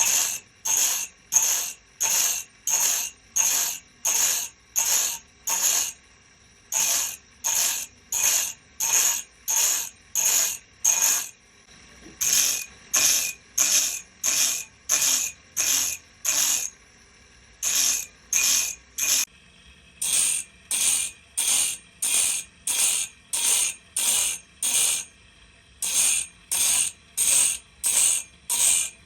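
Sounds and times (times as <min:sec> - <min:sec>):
hand tool rasping strokes: 0:00.0 - 0:06.0, 0:06.7 - 0:11.4, 0:12.2 - 0:16.7, 0:17.6 - 0:19.3, 0:20.0 - 0:25.1, 0:25.8 - 0:29.0.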